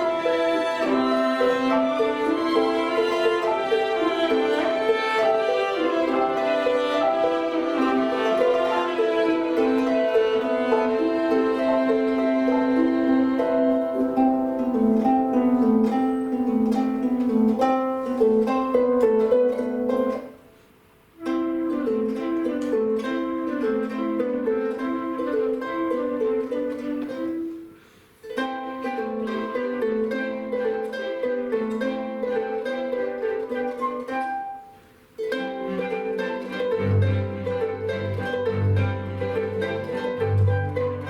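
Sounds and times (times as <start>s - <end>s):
chamber ensemble playing: 0.0s - 20.4s, 21.2s - 41.0s
plucked harp notes: 0.0s - 20.6s, 21.2s - 41.0s
held string tones: 0.0s - 41.0s.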